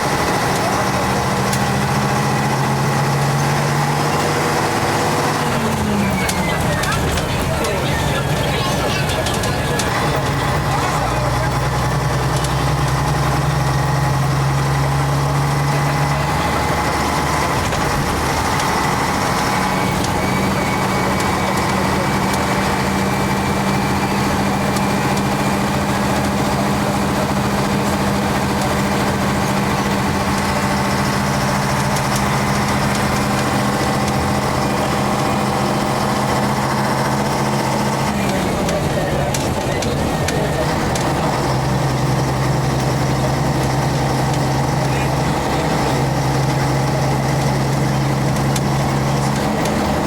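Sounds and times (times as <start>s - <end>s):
bus diesel engine running: 0.0s - 50.0s.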